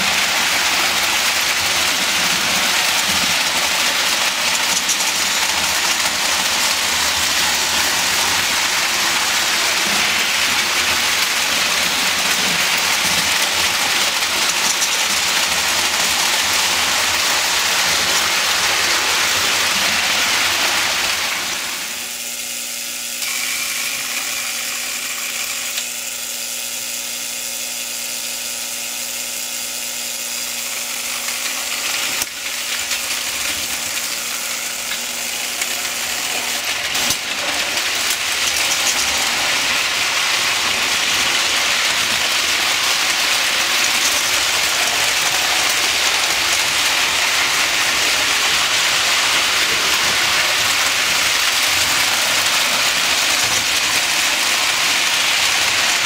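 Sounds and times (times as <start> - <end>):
wheels clattering on rails: 0.0 - 21.8, 30.7 - 56.0
toy train motor hum: 0.0 - 56.0.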